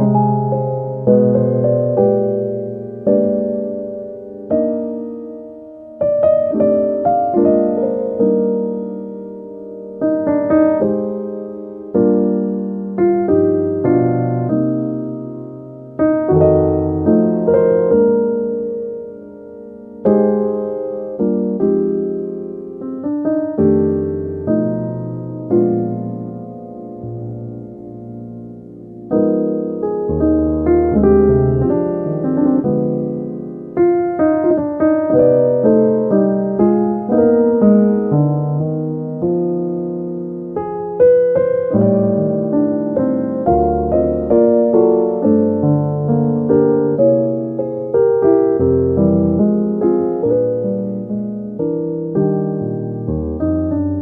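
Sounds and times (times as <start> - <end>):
slow piano music: 0.0 - 54.0.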